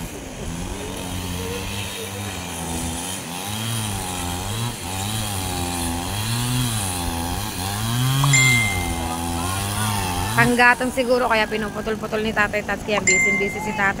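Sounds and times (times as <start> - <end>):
chainsaw cutting wood: 0.0 - 13.4.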